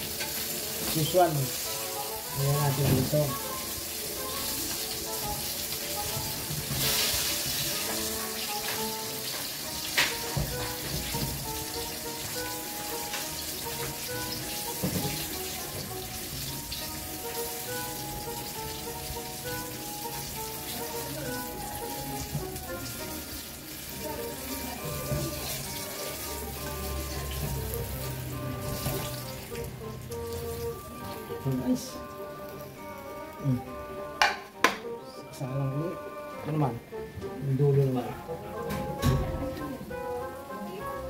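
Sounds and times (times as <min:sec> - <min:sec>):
background music: 0:00.0 - 0:41.0
hot oil sizzling: 0:00.0 - 0:41.0.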